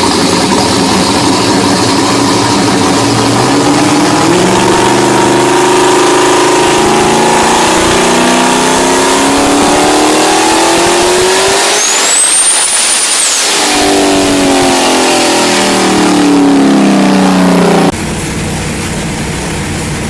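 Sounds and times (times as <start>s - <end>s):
high turbo whistle: 0.0s - 17.9s
car engine accelerating hard: 0.0s - 20.0s.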